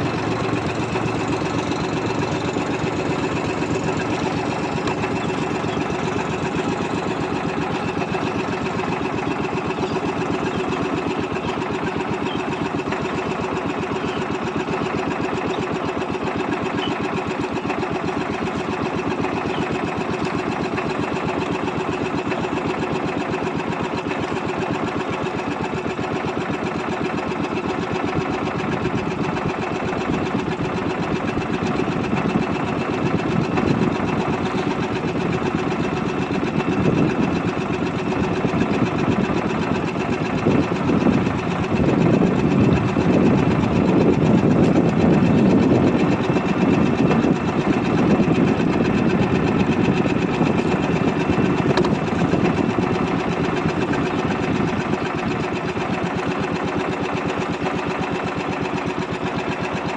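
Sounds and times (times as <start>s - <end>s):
boat engine puttering: 0.0s - 59.9s.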